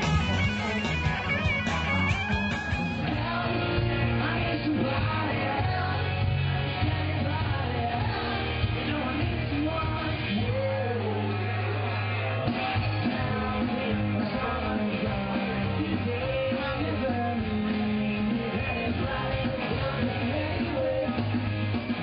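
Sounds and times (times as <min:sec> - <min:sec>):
man singing: 0:00.0 - 0:11.9, 0:12.5 - 0:21.5
rock band playing: 0:00.0 - 0:22.0.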